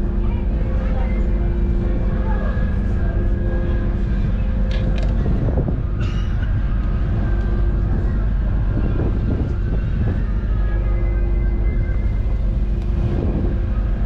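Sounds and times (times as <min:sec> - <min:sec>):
constant tones: 0:00.0 - 0:14.0
ferry engine drone: 0:00.0 - 0:14.0.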